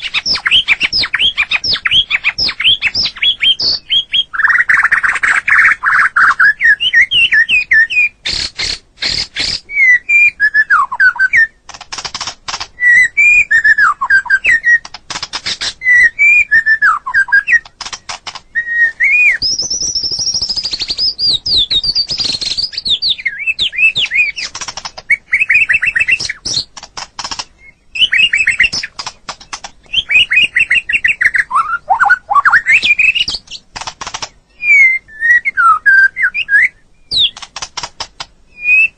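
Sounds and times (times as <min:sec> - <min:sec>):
dry rattling bird notes: 0:00.0 - 0:10.7, 0:11.4 - 0:38.9
bird singing whistled phrases: 0:00.0 - 0:11.6, 0:12.8 - 0:14.9, 0:15.8 - 0:17.7, 0:18.5 - 0:24.5, 0:25.1 - 0:26.7, 0:27.6 - 0:28.9, 0:29.8 - 0:33.6, 0:34.5 - 0:37.4, 0:38.5 - 0:38.9
high fast bird trill: 0:00.0 - 0:38.9.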